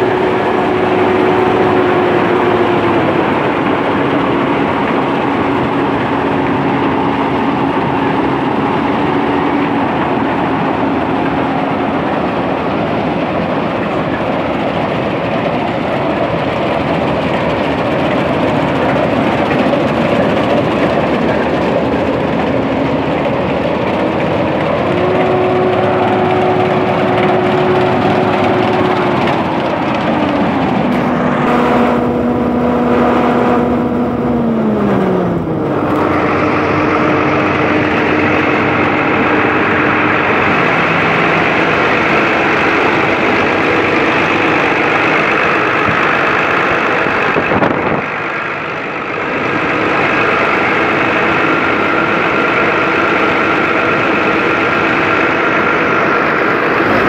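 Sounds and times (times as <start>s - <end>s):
combine harvester engine running: 0.0s - 57.0s.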